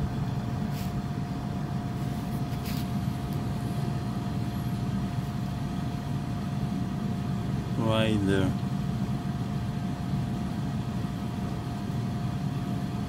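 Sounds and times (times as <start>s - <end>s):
low mechanical hum: 0.0s - 13.0s
thin steady whine: 0.0s - 13.0s.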